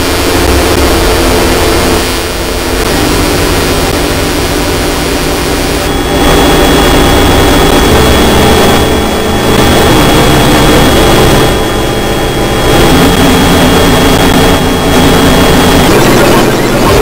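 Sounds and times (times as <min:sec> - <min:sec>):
dense electronic drone: 0:00.0 - 0:17.0.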